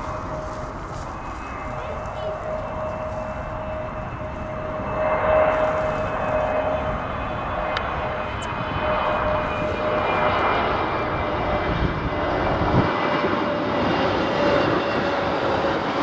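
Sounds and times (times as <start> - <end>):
jet airliner passing: 0.0 - 16.0.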